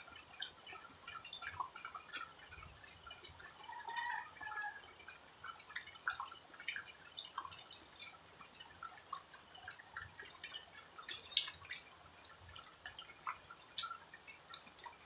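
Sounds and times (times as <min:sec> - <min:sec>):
water dripping: 0:00.0 - 0:15.0.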